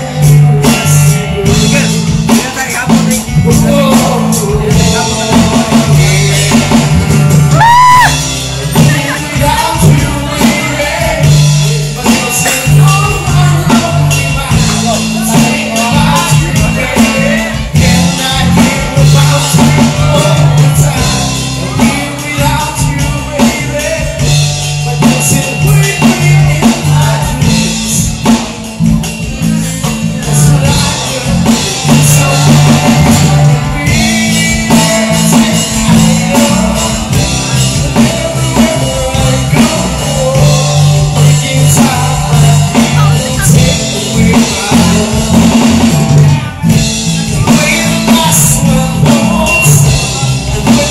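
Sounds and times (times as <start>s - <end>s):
drum kit: 0.0s - 50.9s
electric guitar: 0.0s - 50.9s
man singing into a microphone: 0.0s - 50.9s.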